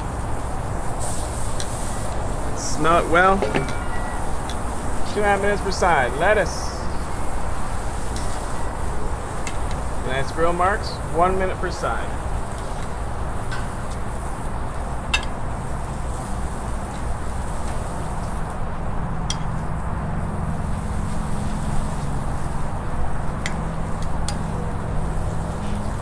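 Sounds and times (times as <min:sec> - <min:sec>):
food sizzling on a grill: 0:00.0 - 0:19.0, 0:20.2 - 0:26.0.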